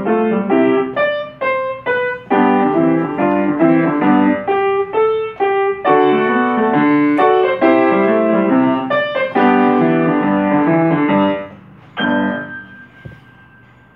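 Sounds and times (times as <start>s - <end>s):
piano chord ringing: 0.0s - 13.9s
upright piano playing boogie blues: 0.0s - 13.9s.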